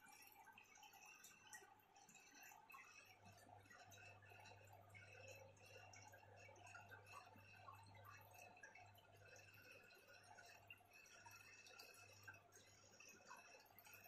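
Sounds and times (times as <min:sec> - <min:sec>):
water dripping and trickling: 0:00.0 - 0:14.0.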